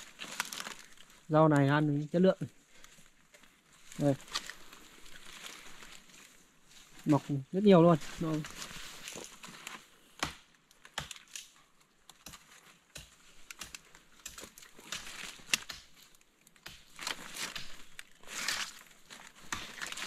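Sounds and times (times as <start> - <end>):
sharp snaps and crackles: 0.0 - 7.3, 8.0 - 20.0
leaves crunching and rustling: 0.0 - 10.0, 11.2 - 20.0.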